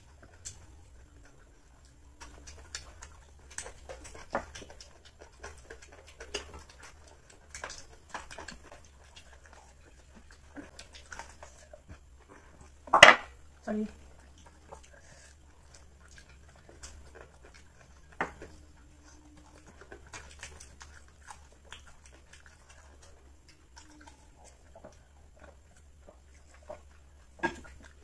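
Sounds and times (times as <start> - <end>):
wet chewing sounds: 0.0 - 28.0.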